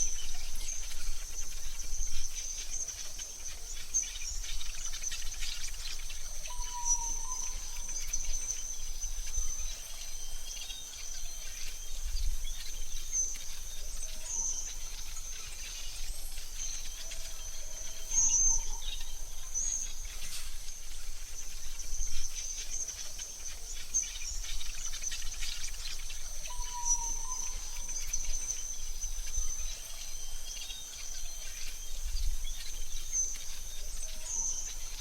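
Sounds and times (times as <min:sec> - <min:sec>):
bird chirps: 0:00.0 - 0:35.0
high insect drone: 0:00.0 - 0:35.0
soft whistled bird notes: 0:00.0 - 0:35.0.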